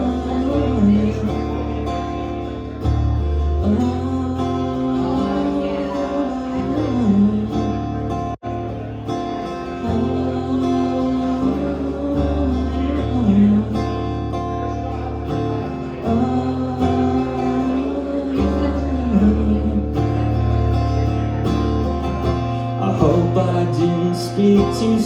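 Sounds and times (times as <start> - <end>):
person singing wordless melody: 0.0 - 20.6
acoustic guitar strummed: 0.0 - 25.0.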